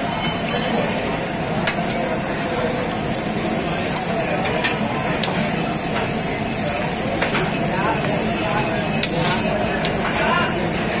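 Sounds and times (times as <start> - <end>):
eggs sizzling on a griddle: 0.1 - 11.0.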